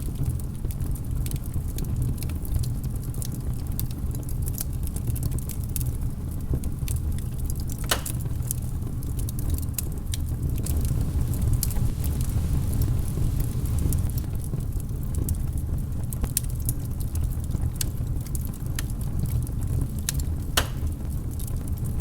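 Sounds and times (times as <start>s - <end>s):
log fire crackling and popping: 0.0s - 22.0s
low rumble of burning: 0.0s - 22.0s.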